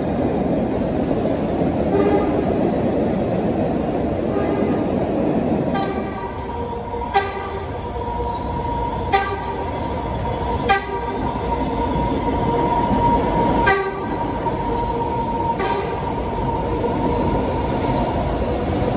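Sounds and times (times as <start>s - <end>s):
train rumbling: 0.0s - 18.9s.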